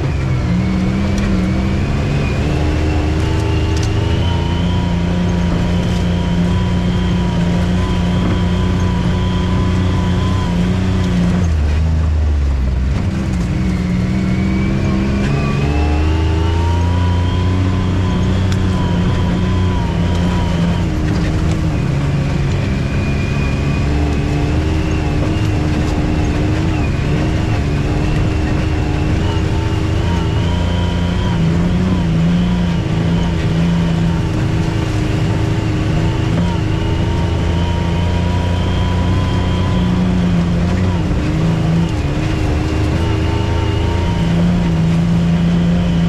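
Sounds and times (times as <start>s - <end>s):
off-road vehicle engine driving: 0.0s - 46.0s.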